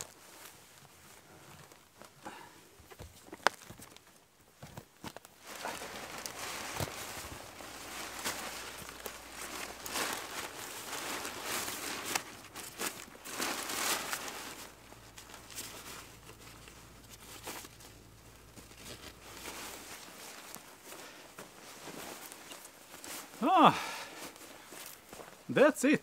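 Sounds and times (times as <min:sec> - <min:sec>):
fabric sack rustling: 0:00.0 - 0:02.4, 0:03.2 - 0:25.5.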